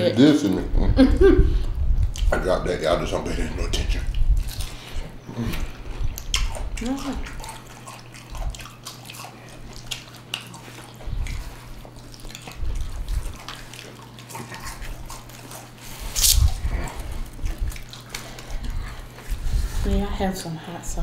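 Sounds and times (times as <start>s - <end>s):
people chewing: 0.0s - 20.0s.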